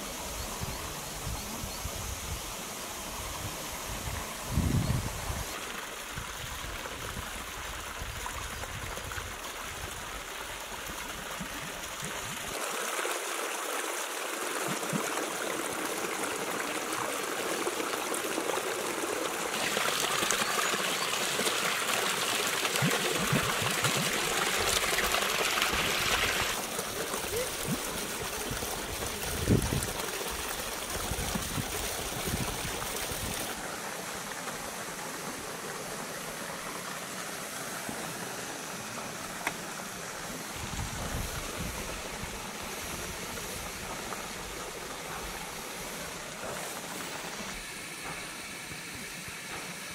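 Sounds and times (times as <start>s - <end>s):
waterfall splashing into pond: 2.5s - 49.9s.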